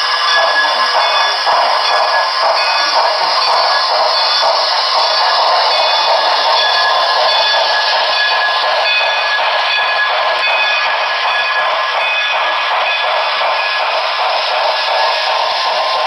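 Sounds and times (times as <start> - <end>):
model train humming and whining: 0.0 - 16.0.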